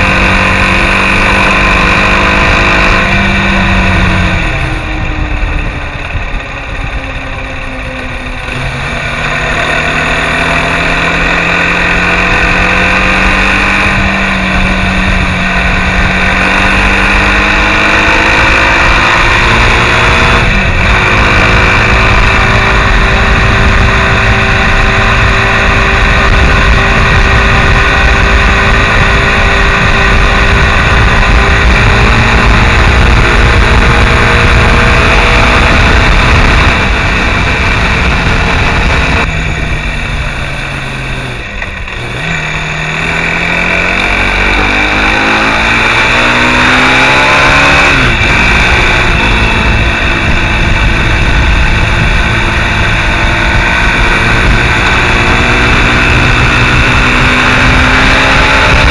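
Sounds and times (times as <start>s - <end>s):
motorcycle engine running: 0.0s - 58.9s
wind rushing over microphone: 0.0s - 58.9s.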